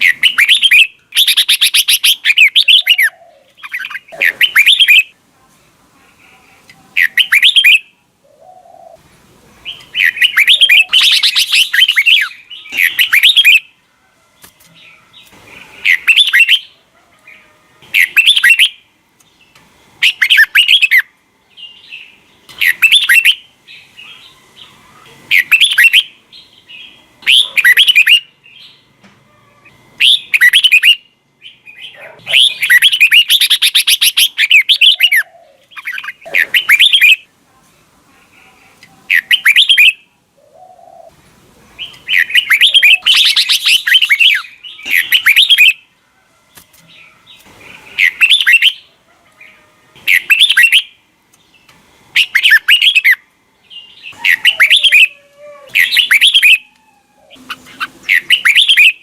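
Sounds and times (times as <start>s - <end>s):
bulbul singing warbled phrases: 0.0s - 5.2s, 6.0s - 13.8s, 14.8s - 18.9s, 20.0s - 28.9s, 30.0s - 37.3s, 38.2s - 41.2s, 41.8s - 45.9s, 47.3s - 51.0s, 52.1s - 56.7s, 57.3s - 59.0s.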